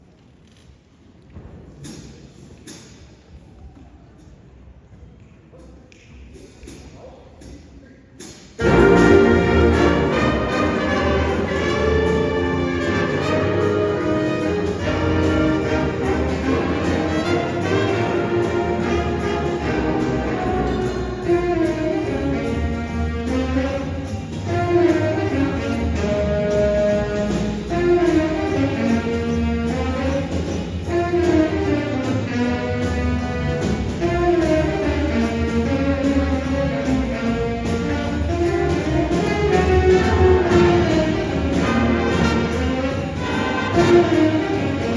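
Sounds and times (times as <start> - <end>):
jazz band playing blues: 8.4 - 44.9
brass melody: 8.6 - 44.9.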